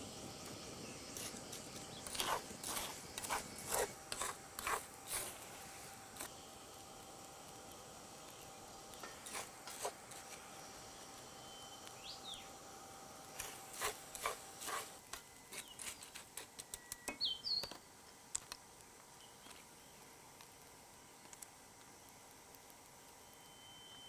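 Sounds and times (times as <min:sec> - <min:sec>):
faint outdoor ambience: 0:00.0 - 0:24.0.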